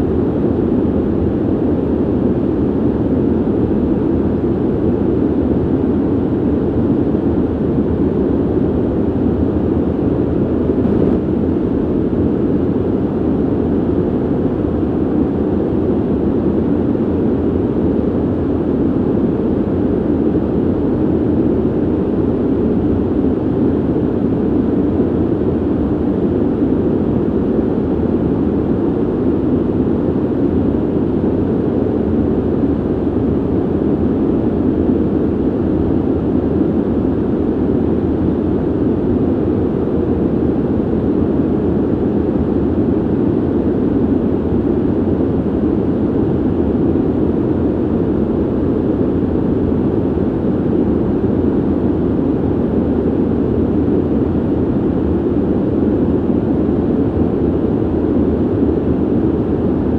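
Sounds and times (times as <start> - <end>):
ventilation air rushing: 0.0 - 59.9.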